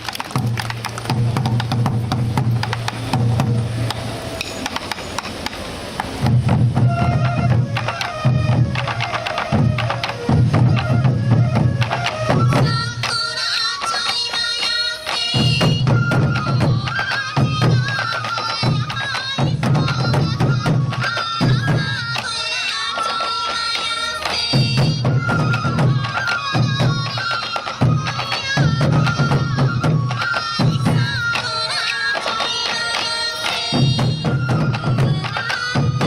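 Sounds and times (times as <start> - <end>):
bamboo flutes melody: 0.0 - 36.0
taiko drums beating: 0.0 - 36.0.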